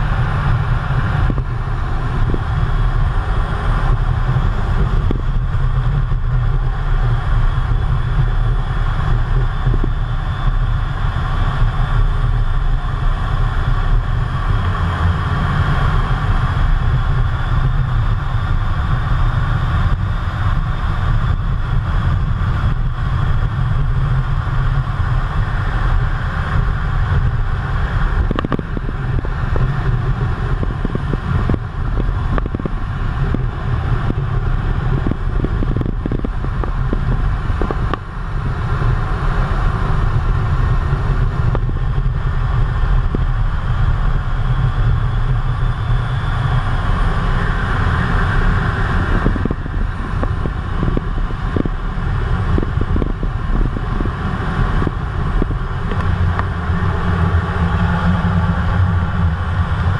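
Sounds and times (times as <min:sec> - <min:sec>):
air rushing over canopy: 0:00.0 - 0:59.9
jet engine rumble: 0:00.0 - 0:59.9.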